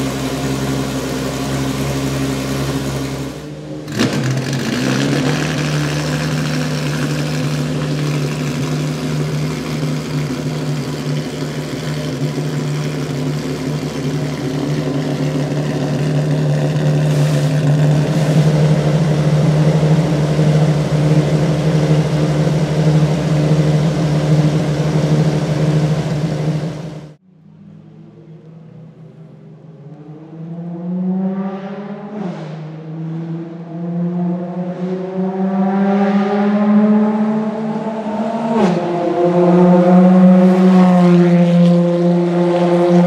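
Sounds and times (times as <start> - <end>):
sports car engine revving: 0.0 - 27.2, 29.8 - 43.0.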